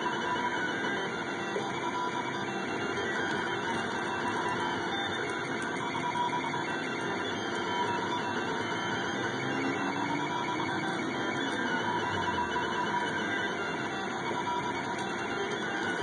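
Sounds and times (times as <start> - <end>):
three d printer whirring: 0.0 - 16.0.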